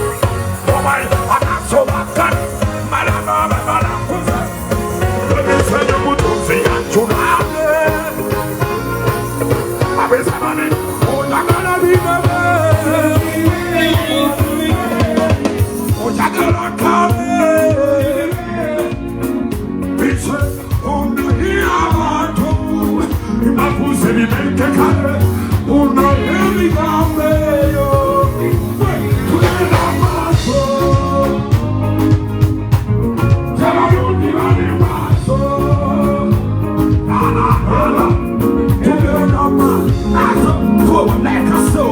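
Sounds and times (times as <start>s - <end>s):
drum and bass groove: 0.0s - 41.9s
person singing: 0.0s - 41.9s.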